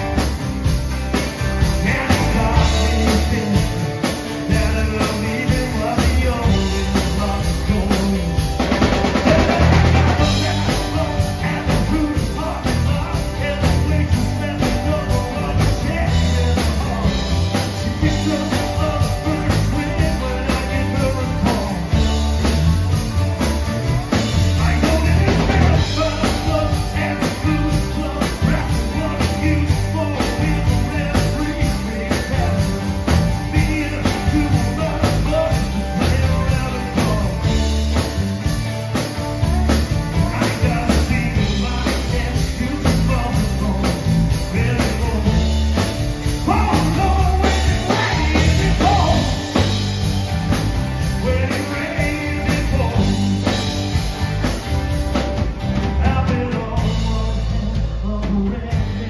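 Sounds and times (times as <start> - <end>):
drum kit beat: 0.0 - 59.0
rock band playing: 0.0 - 59.0.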